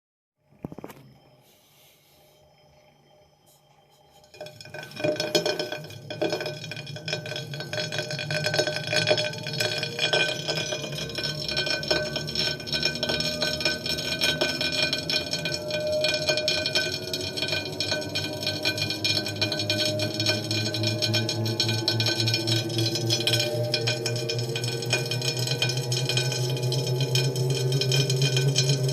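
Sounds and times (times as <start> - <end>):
trainer disc clinking and grinding: 4.3 - 28.9.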